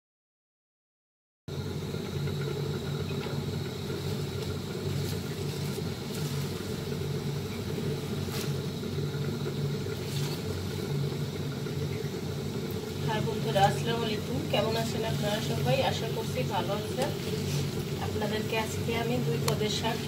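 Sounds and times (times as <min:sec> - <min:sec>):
stove burner flame rumbling: 0:01.5 - 0:20.0.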